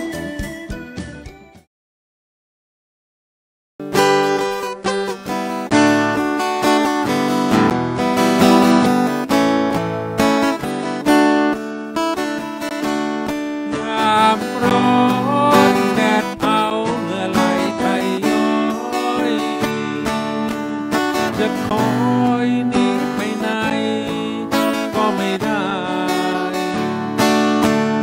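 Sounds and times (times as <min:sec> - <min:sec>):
acoustic guitar strumming: 0:03.8 - 0:28.0.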